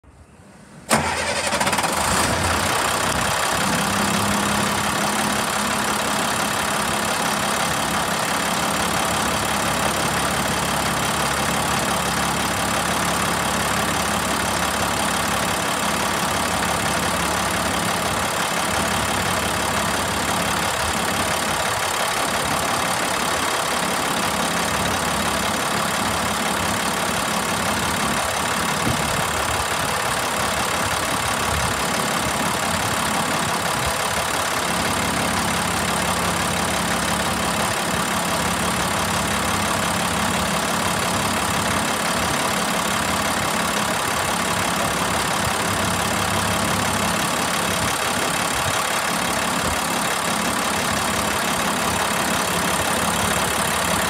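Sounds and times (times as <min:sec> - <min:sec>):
diesel engine idling: 0:00.4 - 0:54.0.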